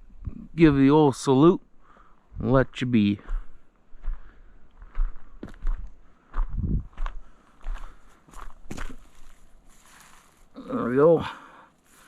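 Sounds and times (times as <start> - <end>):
footsteps walking outdoors: 1.6 - 12.0.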